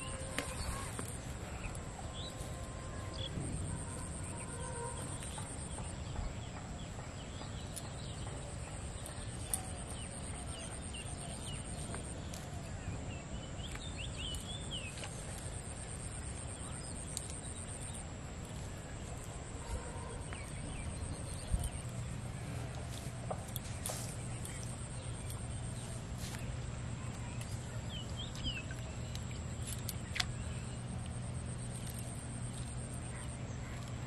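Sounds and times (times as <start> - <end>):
birds chirping: 0.0 - 34.0
low steady rumble: 0.0 - 34.0
steady high-pitched whine: 0.0 - 34.0.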